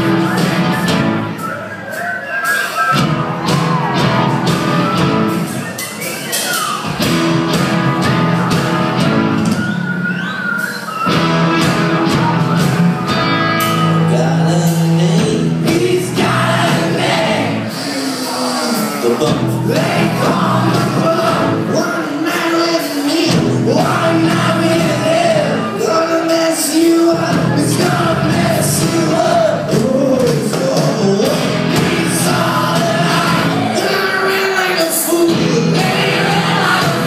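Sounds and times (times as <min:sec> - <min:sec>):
steady drum beat: 0:00.0 - 0:09.9, 0:10.5 - 0:37.0
rock band playing loudly: 0:00.0 - 0:37.0
electric guitars: 0:02.7 - 0:26.0, 0:27.2 - 0:37.0.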